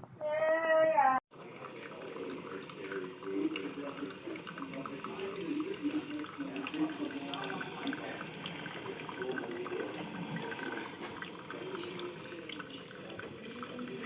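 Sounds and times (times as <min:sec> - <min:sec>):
water filling a container: 0:01.3 - 0:14.0.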